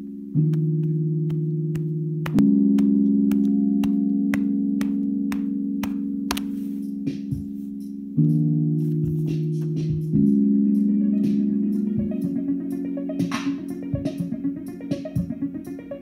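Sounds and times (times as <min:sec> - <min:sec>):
low synth chords: 0:00.0 - 0:16.0.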